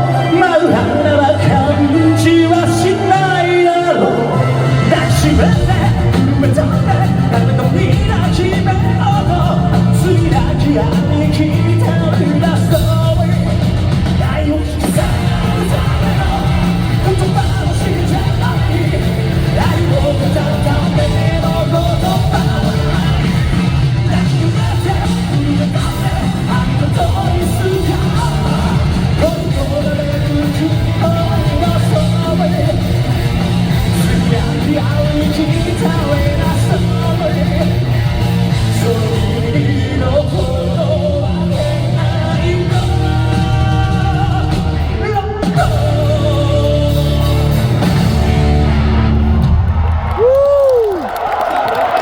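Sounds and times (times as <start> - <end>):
person singing: 0.0 - 48.2
live rock band playing: 0.0 - 50.3.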